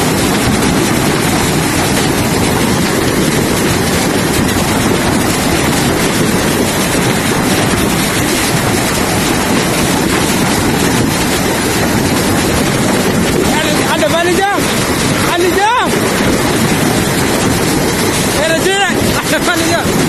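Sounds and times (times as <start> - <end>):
churning floodwater rushing: 0.0 - 20.0.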